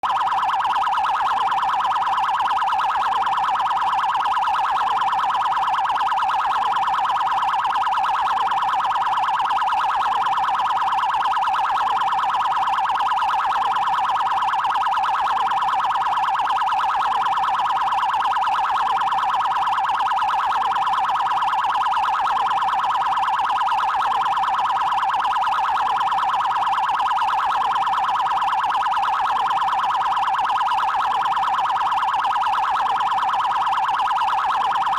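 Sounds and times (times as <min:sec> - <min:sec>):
electronic siren fast warble: 0:00.0 - 0:34.9.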